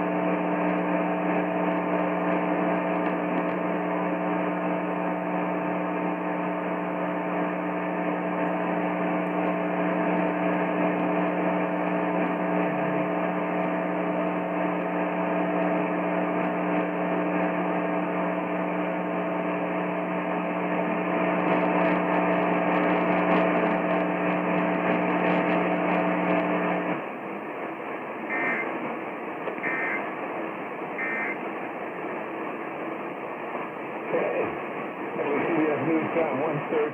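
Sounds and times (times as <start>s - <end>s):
low hum with hiss: 0.0s - 36.9s.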